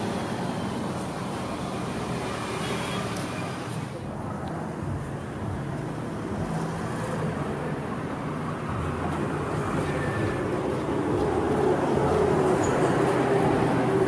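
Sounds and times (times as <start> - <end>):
cars driving past: 0.0 - 14.0.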